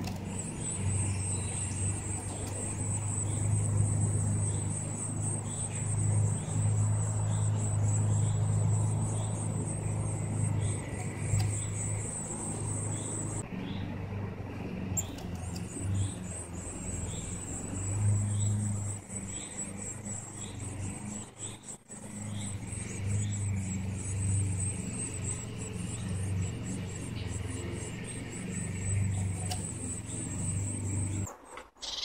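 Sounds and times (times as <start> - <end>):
bird chirping: 0.0 - 13.8, 15.0 - 32.0
distant road traffic rumble: 0.0 - 32.0.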